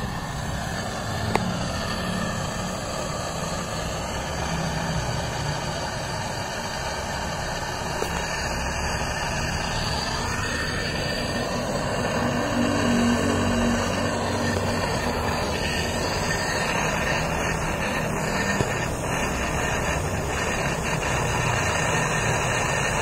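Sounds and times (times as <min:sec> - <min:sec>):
gas torch burning: 0:00.0 - 0:23.0.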